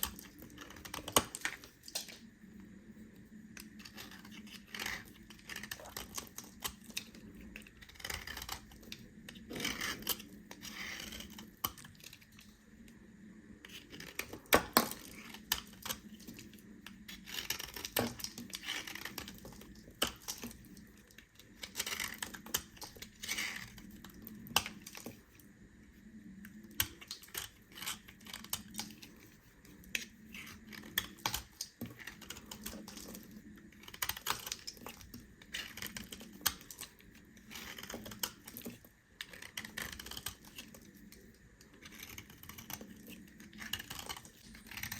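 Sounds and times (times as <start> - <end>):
knife cutting soap: 0.0 - 2.3, 3.4 - 12.5, 13.6 - 25.4, 26.1 - 44.9.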